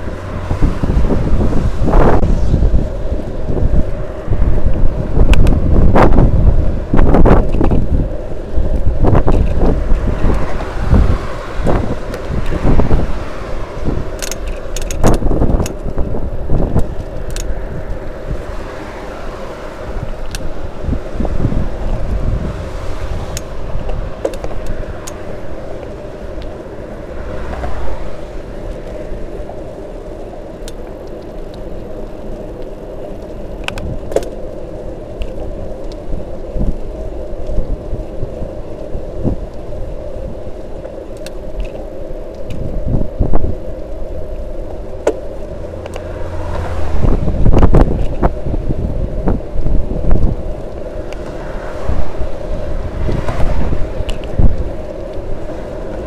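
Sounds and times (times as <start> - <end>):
bicycle clicks and rattles: 0.0 - 56.0
wind buffeting microphone: 0.0 - 56.0.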